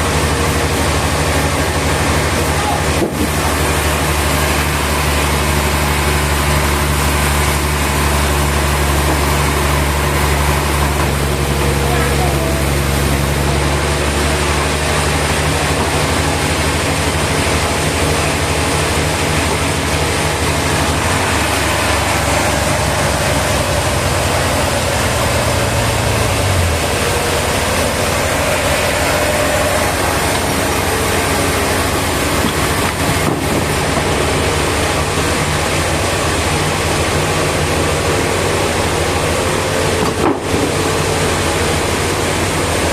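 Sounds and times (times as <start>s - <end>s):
machine engine running: 0.0s - 42.9s.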